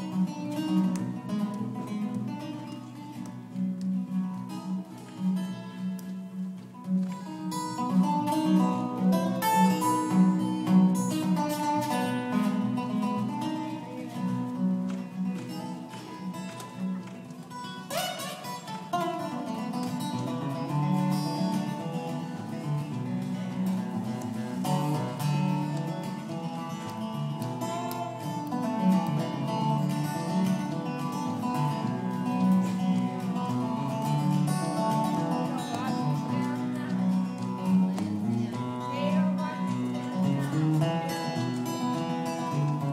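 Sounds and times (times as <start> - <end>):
live country band music: 0.0 - 42.9.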